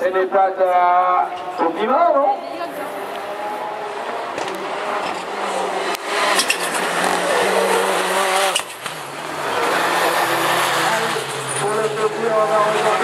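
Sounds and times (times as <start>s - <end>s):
race car engines revving: 1.2s - 13.0s.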